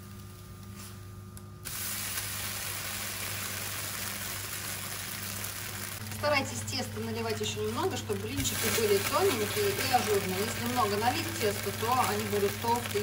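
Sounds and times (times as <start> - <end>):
low steady hum: 0.0 - 13.0
batter sizzling in pan: 1.6 - 13.0.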